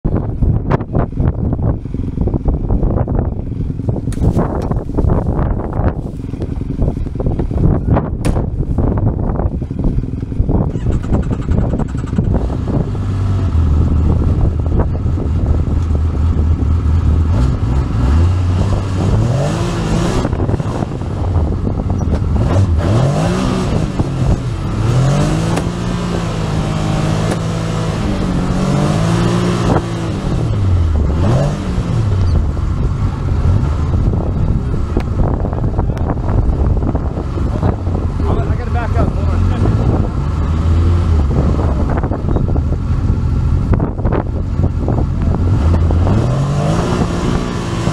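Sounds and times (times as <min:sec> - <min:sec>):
vehicle engine revving: 0:00.4 - 0:47.9.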